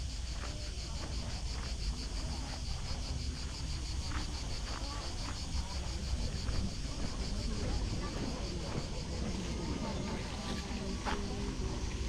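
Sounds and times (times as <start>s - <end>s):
faint distant voices: 0.0s - 12.0s
insects chirring: 0.0s - 12.0s.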